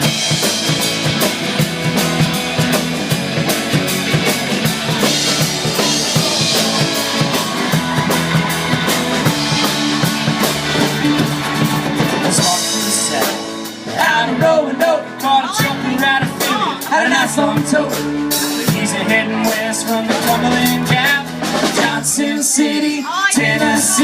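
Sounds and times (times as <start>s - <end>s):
drum kit beat: 0.0s - 22.6s
instrumental band music: 0.0s - 24.0s.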